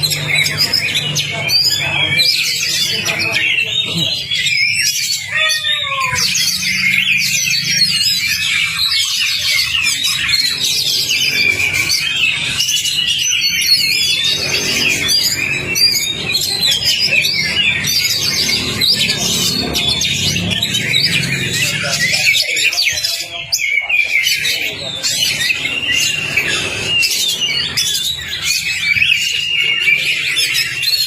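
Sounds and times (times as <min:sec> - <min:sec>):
birds singing whistled trills: 0:00.0 - 0:31.0.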